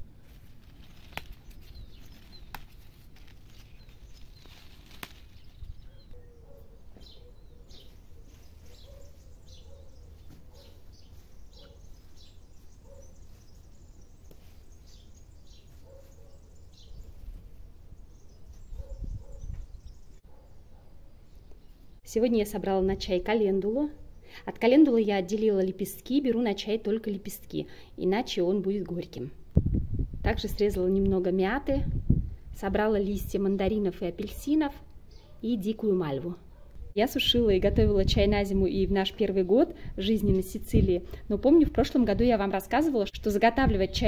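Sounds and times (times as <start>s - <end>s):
small birds chirping: 0.0s - 22.1s, 29.0s - 44.0s.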